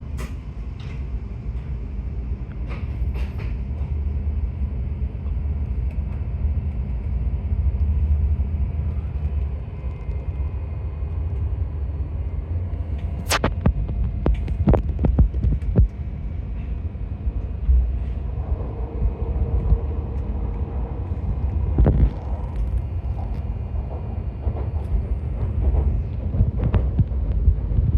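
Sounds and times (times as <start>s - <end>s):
train rumble inside cabin: 0.0s - 27.9s.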